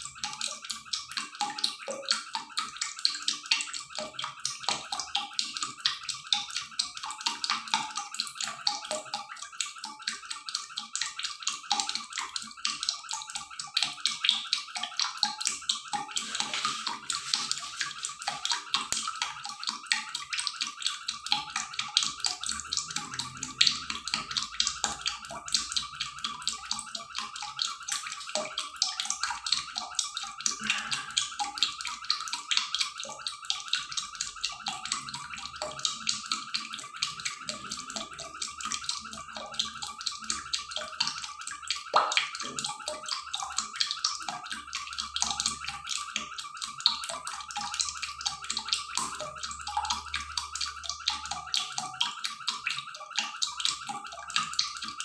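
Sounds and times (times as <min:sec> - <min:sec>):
liquid boiling in a pan: 0:00.0 - 0:55.0.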